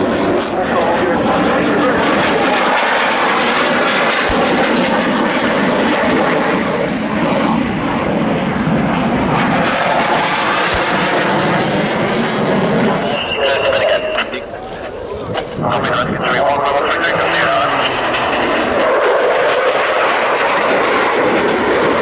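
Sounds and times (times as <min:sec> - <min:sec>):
fighter jet engine roaring: 0:00.0 - 0:22.0.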